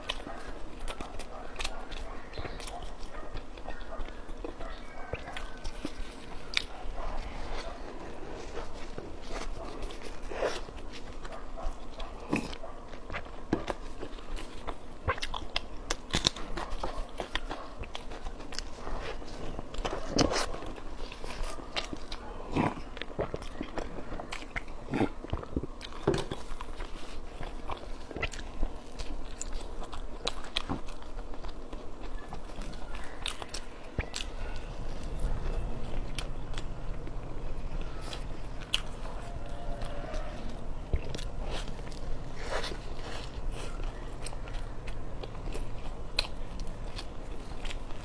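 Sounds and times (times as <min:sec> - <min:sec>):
person chewing: 0:00.0 - 0:48.0.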